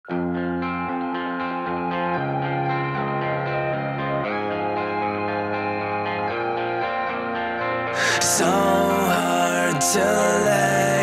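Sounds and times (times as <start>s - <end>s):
electric guitar picking: 0.0s - 11.0s.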